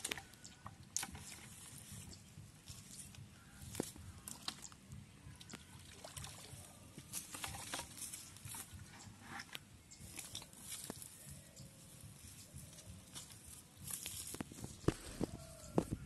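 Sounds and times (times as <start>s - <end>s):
crackles and rustles in grass: 0.0s - 16.0s.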